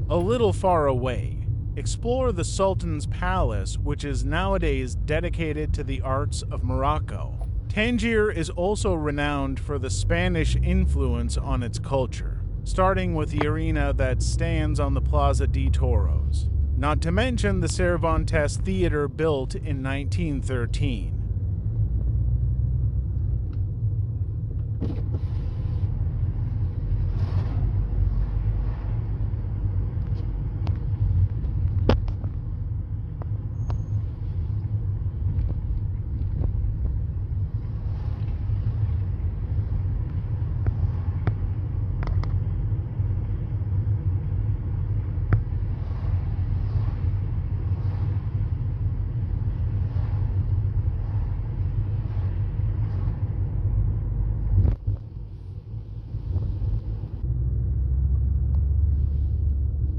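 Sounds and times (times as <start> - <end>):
car rumbling on road: 0.0 - 59.9.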